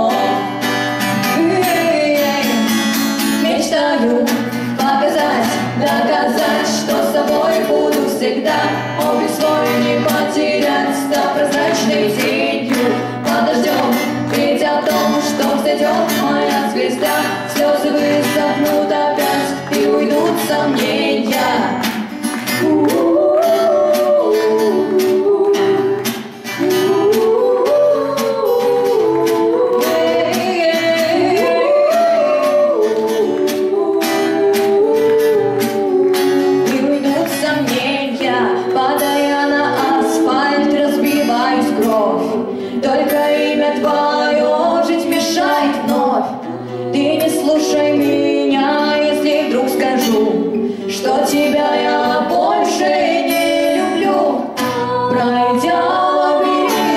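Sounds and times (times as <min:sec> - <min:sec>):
acoustic guitar: 0:00.0 - 0:56.9
women singing: 0:00.0 - 0:56.9.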